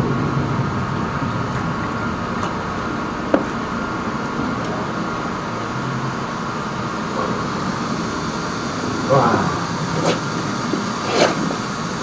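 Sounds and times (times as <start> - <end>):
drain jetter droning: 0.0 - 12.0.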